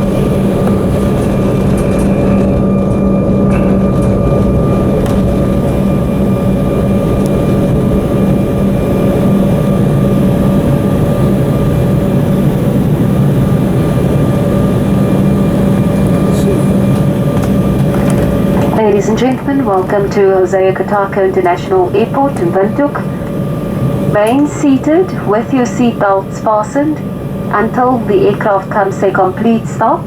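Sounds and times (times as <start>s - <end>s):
airplane cabin engine drone: 0.0s - 30.0s
constant whining tones: 0.0s - 30.0s.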